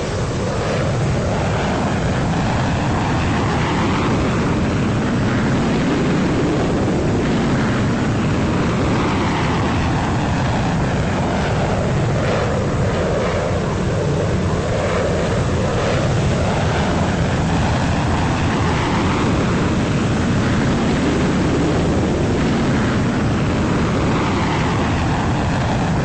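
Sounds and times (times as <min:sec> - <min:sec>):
jet engines roaring in flyby: 0:00.0 - 0:26.0.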